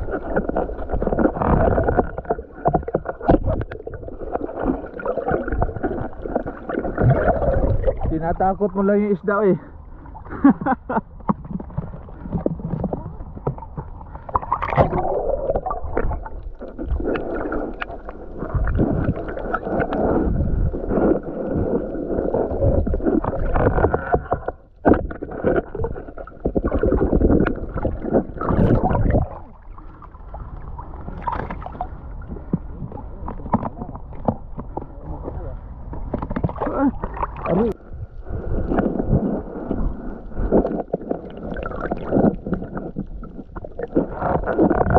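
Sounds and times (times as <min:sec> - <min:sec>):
sea water sloshing and gurgling: 0:00.0 - 0:44.9.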